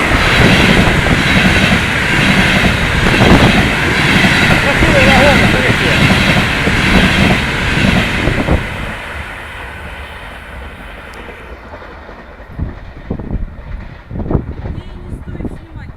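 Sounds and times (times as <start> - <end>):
train passing at high speed: 0.0 - 15.9.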